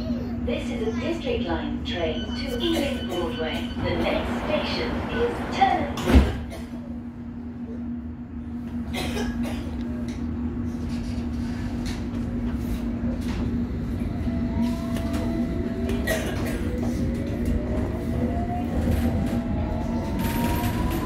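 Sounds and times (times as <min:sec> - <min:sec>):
train rumble and hum: 0:00.0 - 0:21.0.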